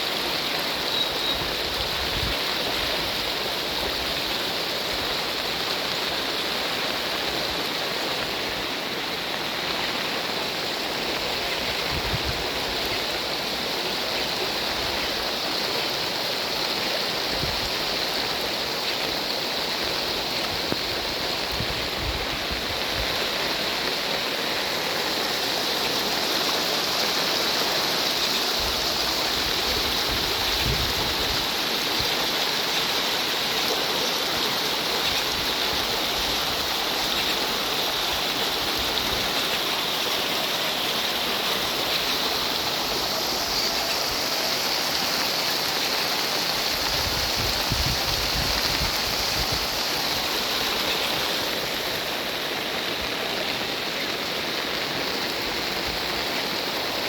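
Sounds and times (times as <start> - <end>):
fast-running water rushing: 0.0 - 57.0.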